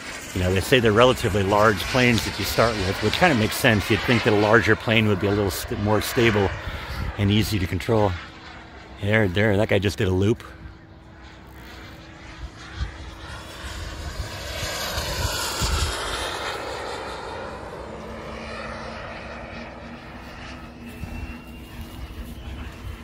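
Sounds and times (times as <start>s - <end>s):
model jet flying overhead: 0.0s - 23.0s.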